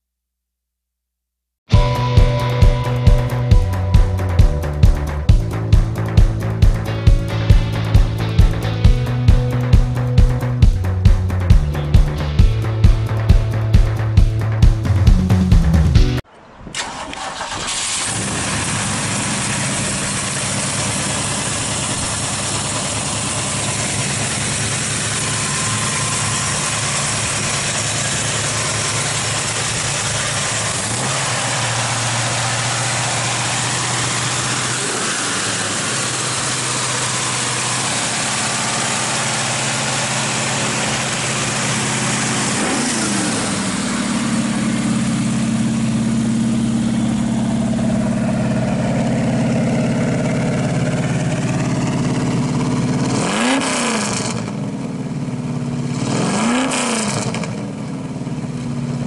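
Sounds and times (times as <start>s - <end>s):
car engine idling: 1.7s - 56.1s, 57.1s - 59.0s.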